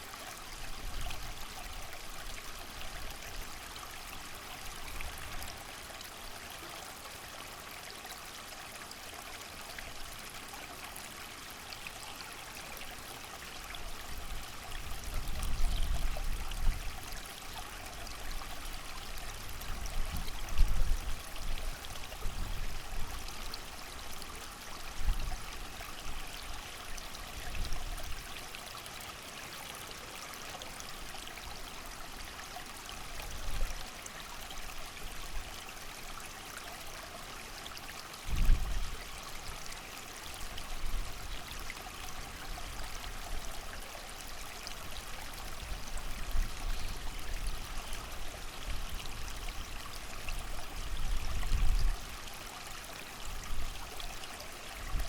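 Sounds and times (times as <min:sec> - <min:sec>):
creek running: 0:00.0 - 0:55.0
rain: 0:00.0 - 0:55.0.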